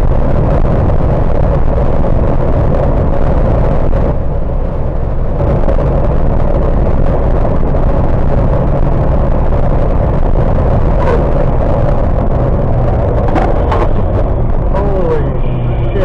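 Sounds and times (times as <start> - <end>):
road noise: 0.0 - 16.0
truck engine running: 0.0 - 16.0.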